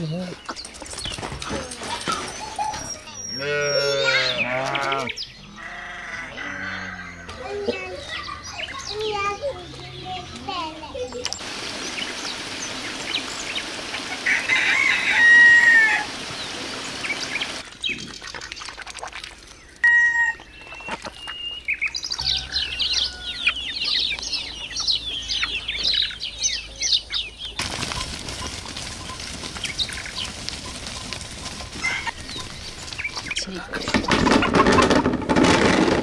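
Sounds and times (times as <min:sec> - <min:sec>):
chickens calling: 0:00.0 - 0:18.8, 0:19.4 - 0:36.0.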